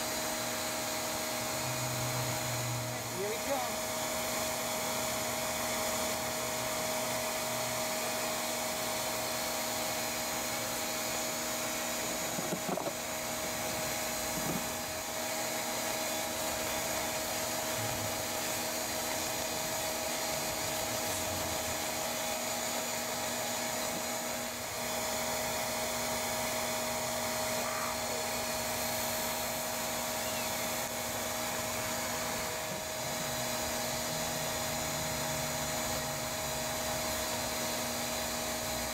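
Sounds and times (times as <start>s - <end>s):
vacuum motor whining: 0.0s - 38.9s.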